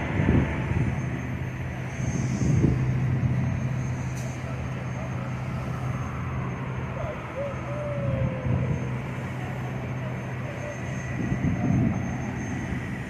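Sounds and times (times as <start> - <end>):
low engine drone: 0.0 - 13.0
faint tone sliding downward: 0.8 - 13.0.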